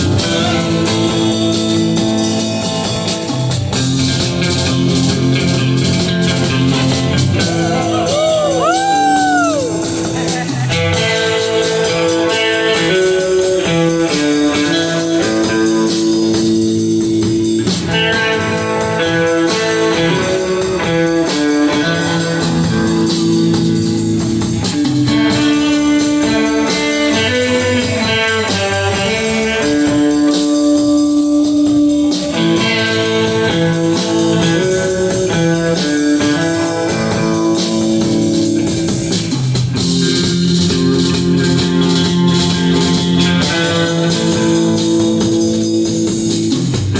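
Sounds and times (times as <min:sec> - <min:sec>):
guitar long held notes: 0:00.0 - 0:46.9
rock band playing: 0:00.0 - 0:46.9.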